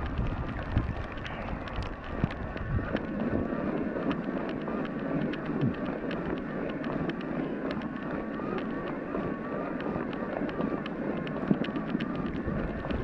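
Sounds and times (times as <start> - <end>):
faint wavering whine: 0.0 - 13.0
rush of tyres in snow: 0.0 - 13.0
small clicks: 0.0 - 13.0
wind: 0.0 - 13.0.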